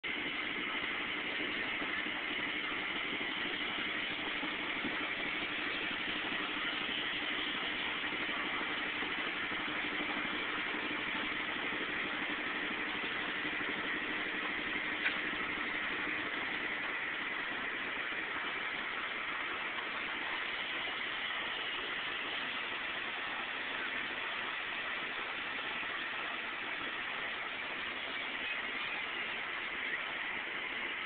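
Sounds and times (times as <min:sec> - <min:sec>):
locomotive idling: 0:00.0 - 0:31.0.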